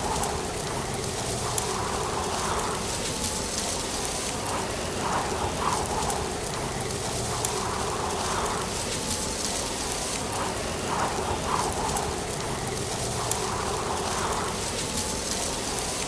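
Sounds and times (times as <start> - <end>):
wind rustling dry leaves: 0.0 - 16.0.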